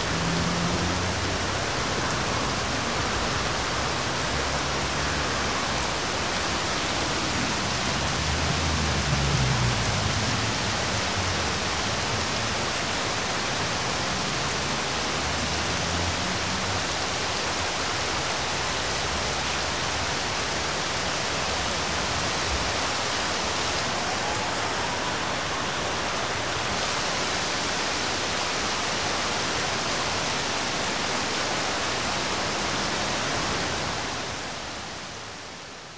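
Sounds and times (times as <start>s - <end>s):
heavy rain hiss: 0.0s - 35.9s.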